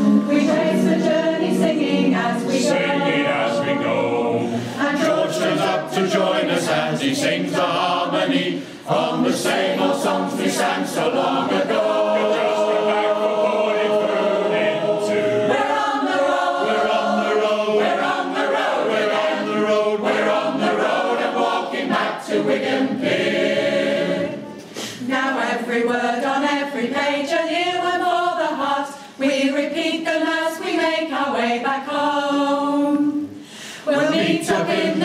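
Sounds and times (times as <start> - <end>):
choir singing a cappella: 0.0 - 35.0.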